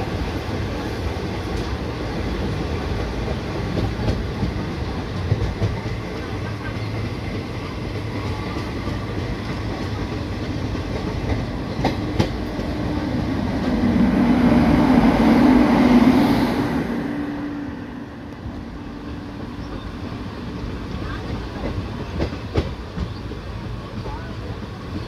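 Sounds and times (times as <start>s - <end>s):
train rail rumble: 0.0s - 25.0s.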